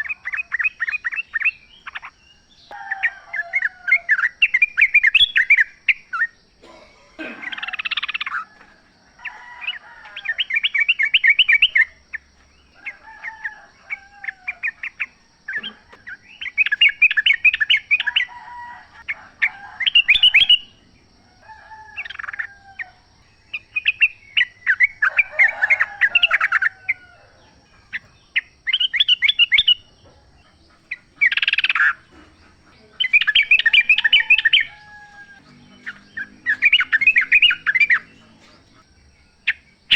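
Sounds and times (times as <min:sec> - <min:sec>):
birds chattering calls: 0:00.0 - 0:39.9.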